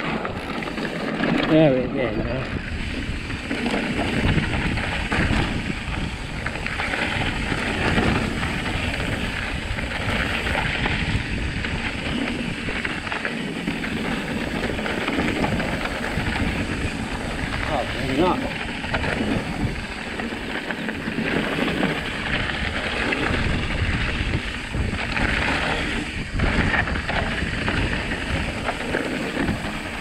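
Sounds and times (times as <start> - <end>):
bike knocking and rattling: 0.0 - 30.0
tyre noise on dirt: 0.0 - 30.0
wind rushing over microphone: 0.0 - 30.0.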